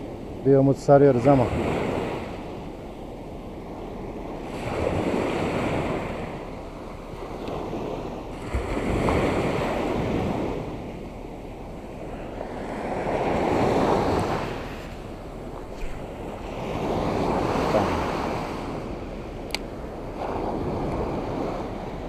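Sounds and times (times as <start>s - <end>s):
surf washing up a beach: 0.0s - 22.0s
wind buffeting microphone: 0.0s - 22.0s.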